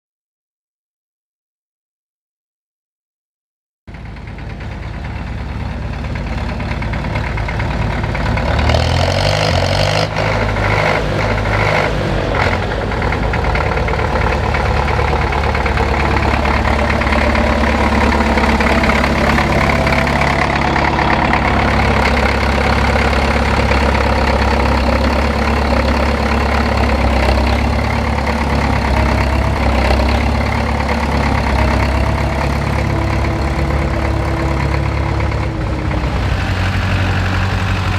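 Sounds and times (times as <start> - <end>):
tractor diesel engine running: 3.9 - 37.9.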